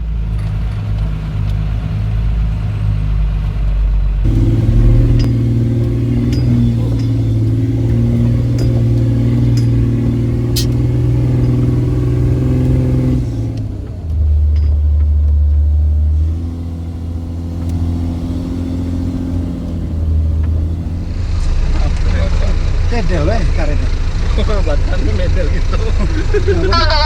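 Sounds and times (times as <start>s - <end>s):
vehicle engine running under load: 0.0s - 27.0s.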